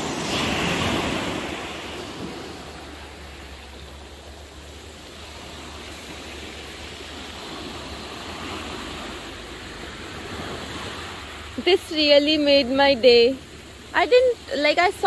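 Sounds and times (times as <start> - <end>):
waves washing onto stony beach: 0.0 - 15.0.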